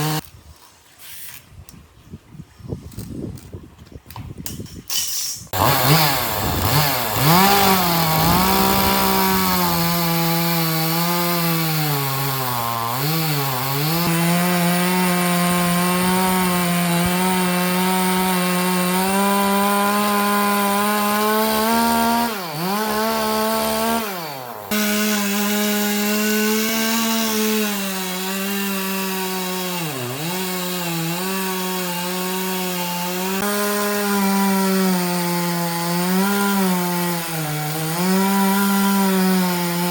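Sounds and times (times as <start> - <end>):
chainsaw cutting wood: 0.0 - 0.2, 5.5 - 39.9.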